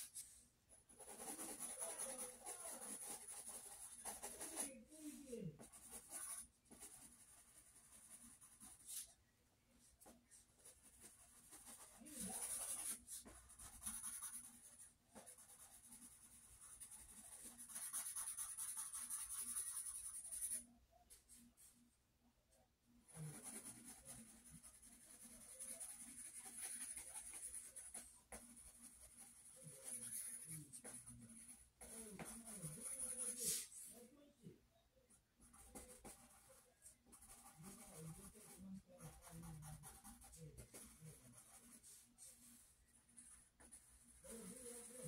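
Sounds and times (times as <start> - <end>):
pen scratching on paper: 0.9 - 9.1, 10.0 - 20.6, 23.1 - 33.7, 35.4 - 45.0.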